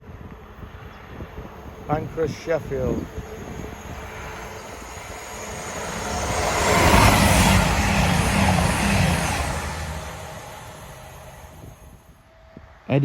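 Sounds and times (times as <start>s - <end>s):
diesel train passing: 0.2s - 12.8s.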